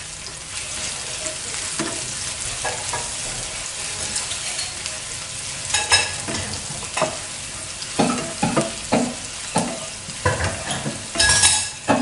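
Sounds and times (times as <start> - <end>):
onion and garlic sizzling in oil: 0.0 - 12.0.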